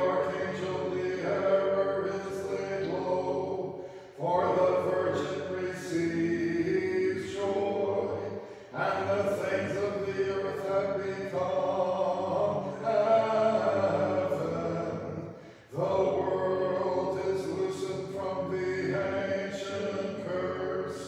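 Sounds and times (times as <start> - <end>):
unaccompanied choral chant: 0.0 - 21.0.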